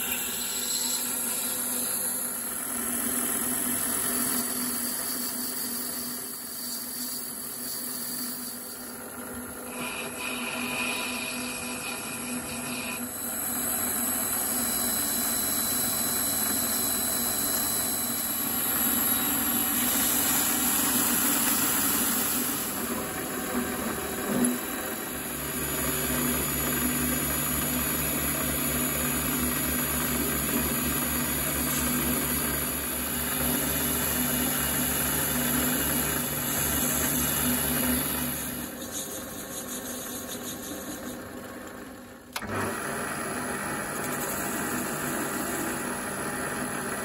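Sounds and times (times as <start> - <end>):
lathe cutting brass: 0.0 - 41.2
lathe motor hum: 0.0 - 47.0.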